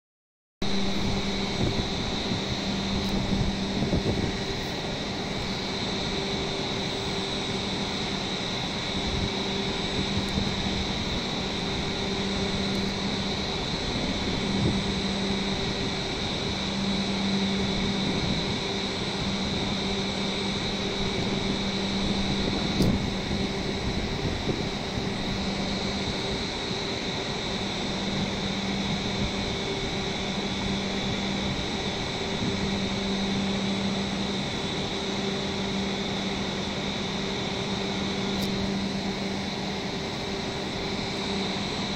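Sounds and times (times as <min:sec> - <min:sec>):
constant high whine: 0:00.6 - 0:41.9
low drone: 0:00.6 - 0:41.9
train equipment humming: 0:00.6 - 0:41.9.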